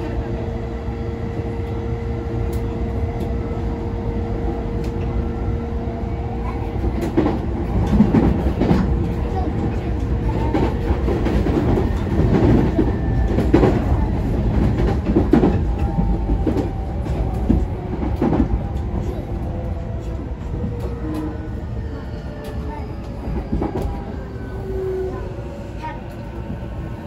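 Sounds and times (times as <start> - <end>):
rumble of wheels on rail: 0.0 - 27.0.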